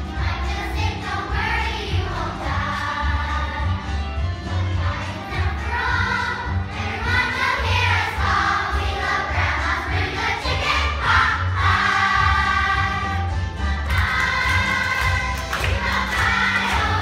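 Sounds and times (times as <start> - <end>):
children singing together: 0.0 - 3.9, 4.7 - 17.0.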